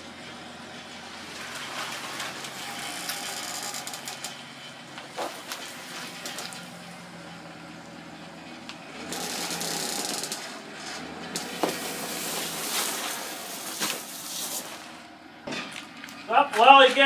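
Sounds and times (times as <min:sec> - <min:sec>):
pickup truck engine running: 0:00.0 - 0:16.3.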